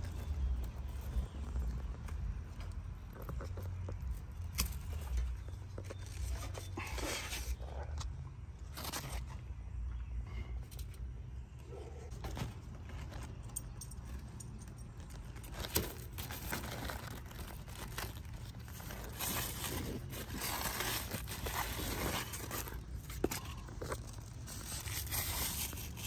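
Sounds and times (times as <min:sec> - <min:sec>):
leaves rustling and crinkling: 0:00.0 - 0:08.0, 0:08.6 - 0:09.8, 0:12.1 - 0:26.0.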